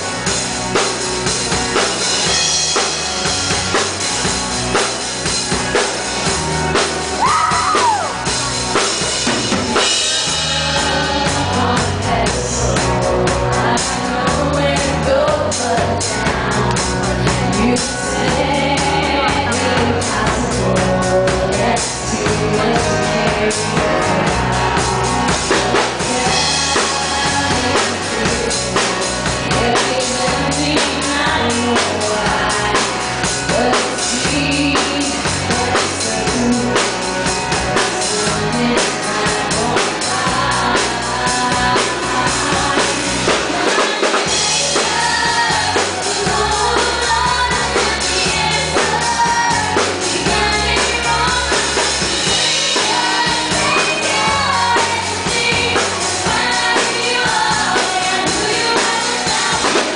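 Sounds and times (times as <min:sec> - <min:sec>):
drum kit: 0:00.0 - 0:59.9
guitar: 0:00.0 - 0:59.9
woman singing lead: 0:00.0 - 0:59.9.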